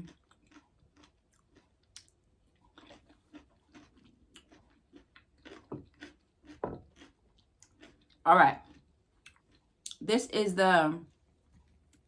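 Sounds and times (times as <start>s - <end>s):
person chewing wet crunchy food: 0.0s - 10.0s, 11.0s - 12.0s.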